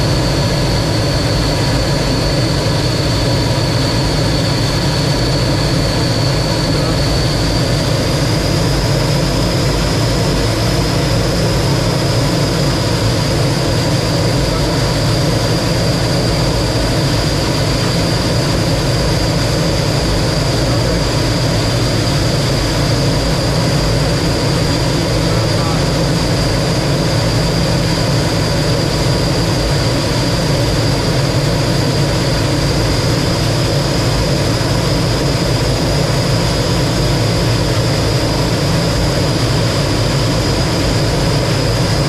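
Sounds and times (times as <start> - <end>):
jet engine rush and whine: 0.0 - 42.0.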